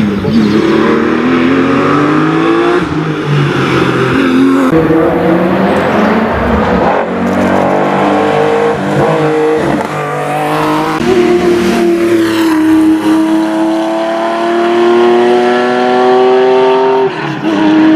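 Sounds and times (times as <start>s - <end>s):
racing car engine accelerating: 0.0s - 17.9s.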